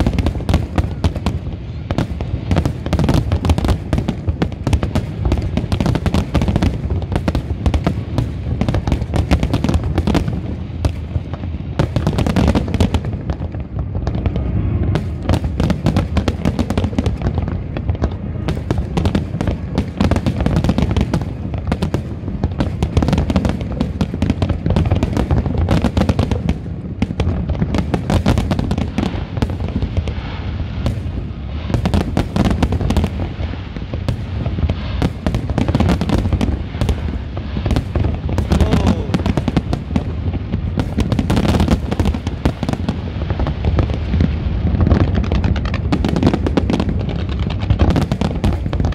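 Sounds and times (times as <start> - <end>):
deep rumble: 0.0 - 48.9
firework shell bursts and crackles: 0.0 - 48.9.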